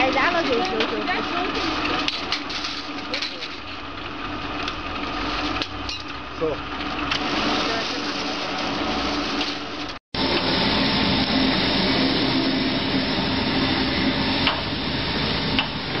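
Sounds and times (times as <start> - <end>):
cable-stripping machines humming: 0.0 - 16.0
industrial stripper cutting heavy cable: 0.0 - 16.0.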